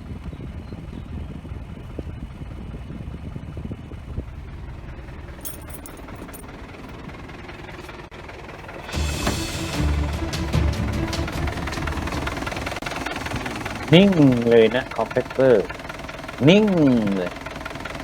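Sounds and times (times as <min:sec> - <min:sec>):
pickup engine idling: 0:00.0 - 0:18.0.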